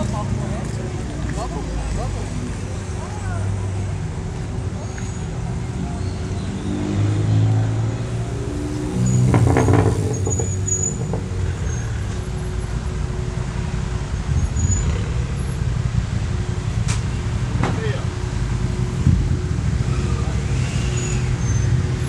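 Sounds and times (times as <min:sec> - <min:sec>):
cars passing: 0:00.0 - 0:22.0.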